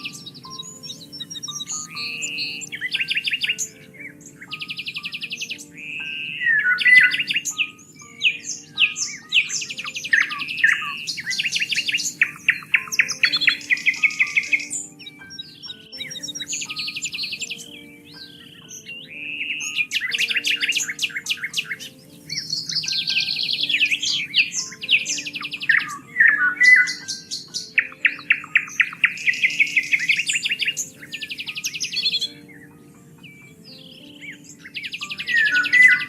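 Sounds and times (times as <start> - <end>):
songbirds singing and calling: 0.0 - 36.0.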